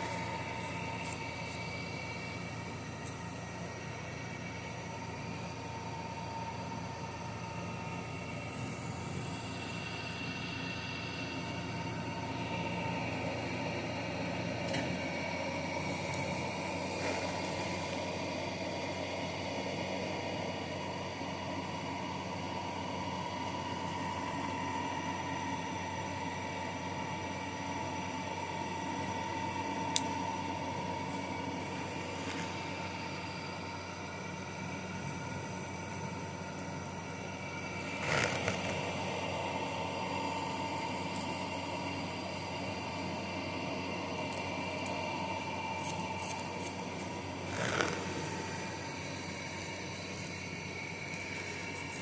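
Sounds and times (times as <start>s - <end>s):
small motor whining: 0.0s - 52.0s.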